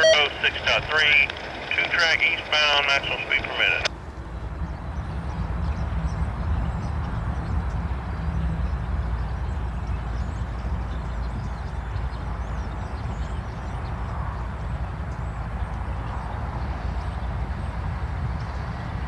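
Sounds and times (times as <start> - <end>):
diesel locomotive engine drone: 0.0 - 19.0
train rumbling: 0.0 - 19.0.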